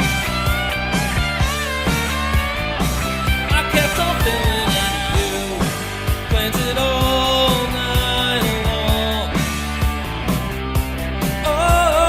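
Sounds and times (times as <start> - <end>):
bass: 0.0 - 12.0
guitar with bending notes: 0.0 - 12.0
steady drum beat: 0.0 - 12.0.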